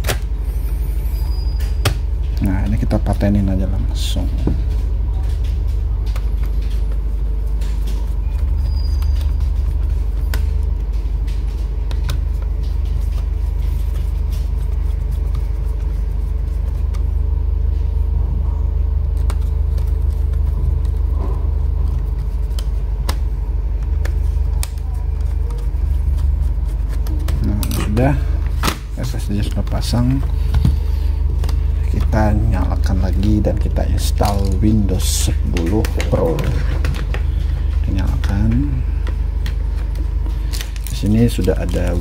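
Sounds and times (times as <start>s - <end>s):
steady low rumble: 0.0s - 42.0s.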